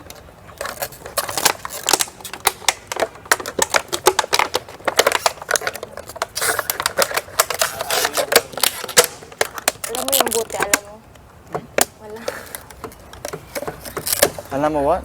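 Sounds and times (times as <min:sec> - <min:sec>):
craft materials clicking and crackling: 0:00.0 - 0:14.6.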